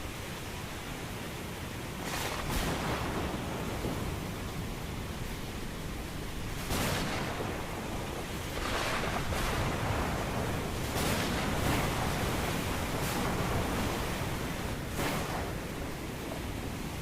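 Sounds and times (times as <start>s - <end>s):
ocean waves breaking: 0.7s - 17.0s.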